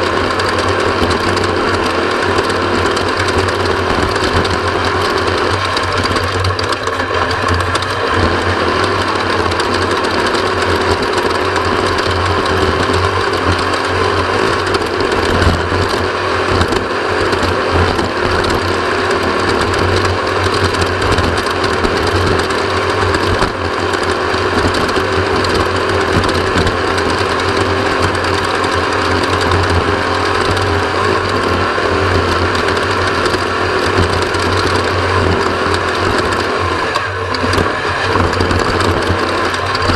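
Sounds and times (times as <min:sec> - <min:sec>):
race vehicle engine running hard: 0:00.0 - 0:39.9.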